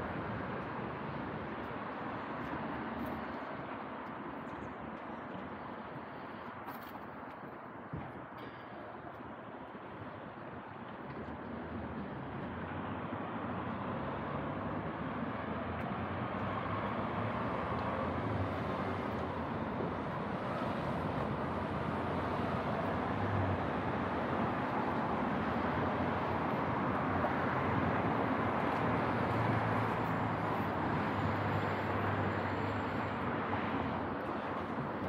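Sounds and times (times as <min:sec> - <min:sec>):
road traffic noise: 0:00.0 - 0:35.0.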